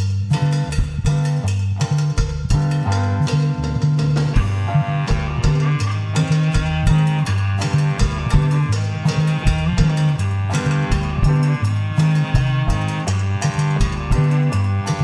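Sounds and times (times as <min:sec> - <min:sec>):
bass line: 0:00.0 - 0:15.0
drum kit beat: 0:00.0 - 0:15.0.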